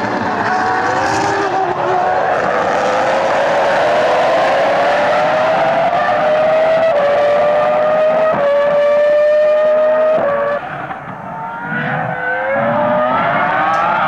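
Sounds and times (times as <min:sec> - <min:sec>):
distant racing car accelerating: 0:00.0 - 0:14.0
racing car engine at high revs: 0:00.0 - 0:14.0.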